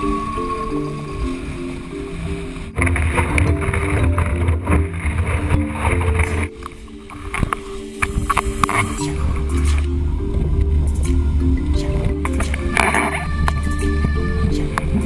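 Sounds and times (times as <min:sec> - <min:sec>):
background music: 0:00.0 - 0:15.0
wind on microphone: 0:00.0 - 0:15.0.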